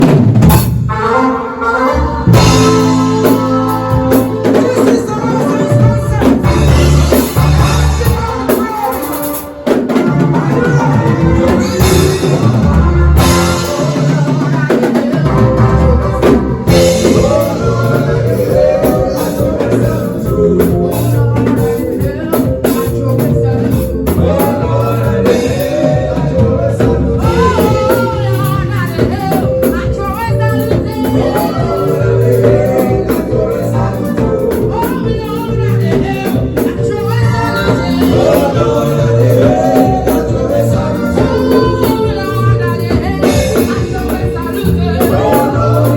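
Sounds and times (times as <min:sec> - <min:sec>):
live band playing: 0:00.0 - 0:45.9
person singing: 0:00.9 - 0:45.9.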